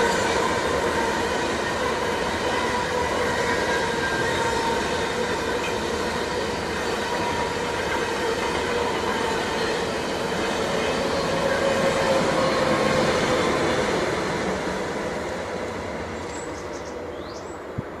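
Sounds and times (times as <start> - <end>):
train rumbling on rails: 0.0 - 18.0
train whine: 0.0 - 18.0.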